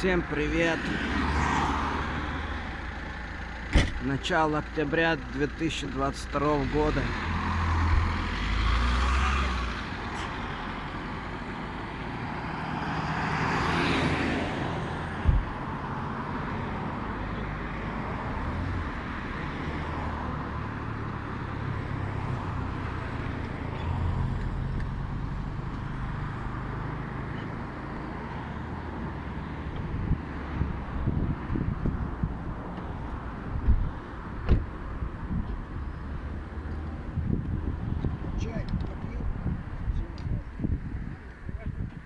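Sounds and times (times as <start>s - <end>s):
vehicle engine and road noise: 0.0s - 42.0s.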